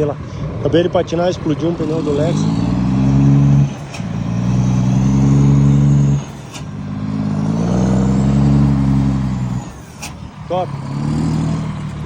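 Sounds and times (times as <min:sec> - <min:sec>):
diesel truck engine revving: 0:00.0 - 0:12.0.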